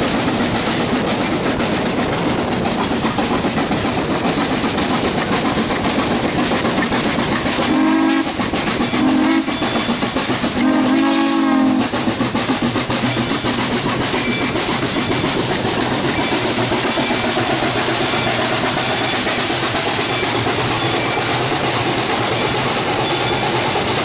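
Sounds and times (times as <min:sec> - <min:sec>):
wheels rolling on rails: 0:00.0 - 0:10.6, 0:11.8 - 0:24.0
steam locomotive exhaust beat: 0:00.0 - 0:24.0.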